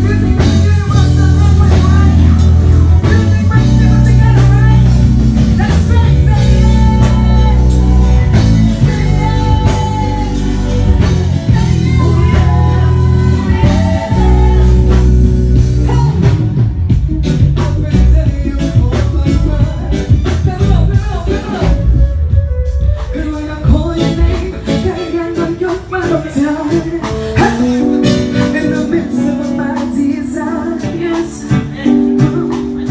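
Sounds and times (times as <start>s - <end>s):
guitar: 0.0s - 32.9s
heavy bass: 0.0s - 32.9s
person singing: 0.0s - 32.9s.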